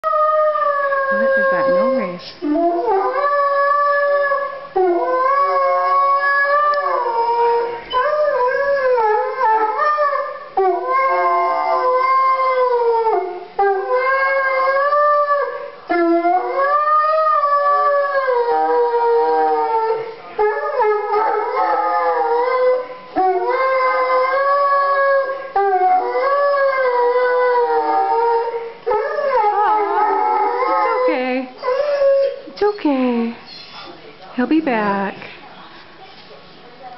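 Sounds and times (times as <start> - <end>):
dog howling: 0.0 - 32.5.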